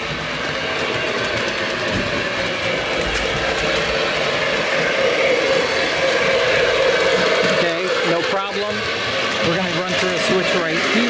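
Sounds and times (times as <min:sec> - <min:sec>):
model train rolling on track: 0:00.0 - 0:11.0.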